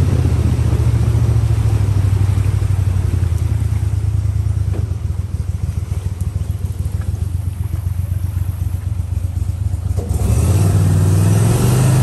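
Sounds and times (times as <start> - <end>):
boat mud motor engine drone: 0.0 - 12.0.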